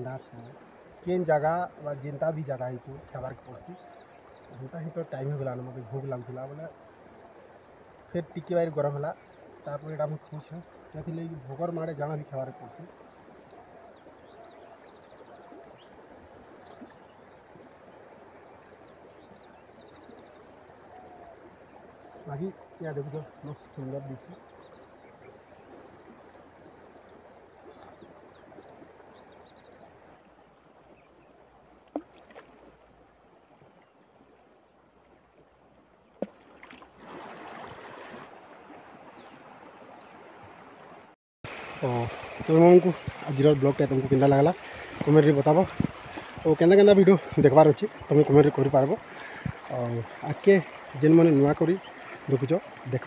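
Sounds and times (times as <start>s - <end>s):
river flowing past rocks: 0.0s - 53.0s.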